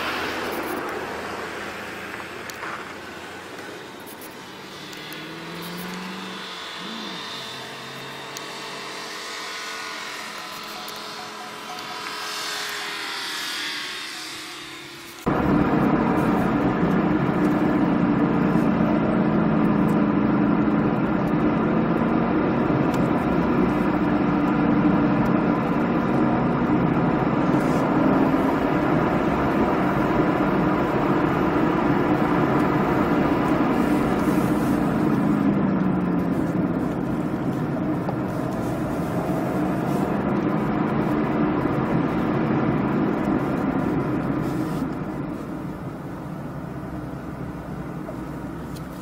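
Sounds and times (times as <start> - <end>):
car engine accelerating: 0.0 - 49.0.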